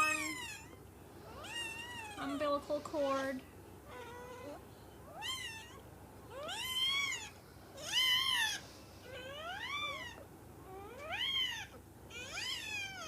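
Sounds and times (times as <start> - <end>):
puppy crying: 0.0 - 2.5, 3.9 - 13.0.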